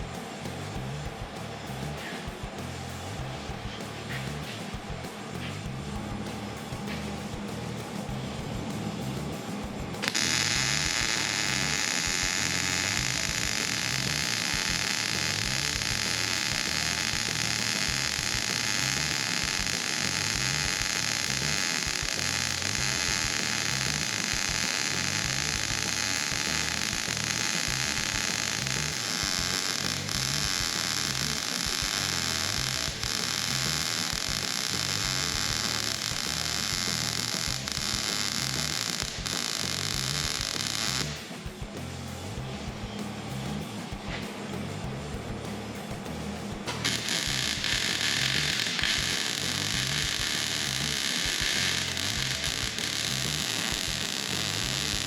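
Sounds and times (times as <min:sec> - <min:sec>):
welder crackling hiss: 0:00.0 - 0:42.5, 0:45.5 - 0:55.0.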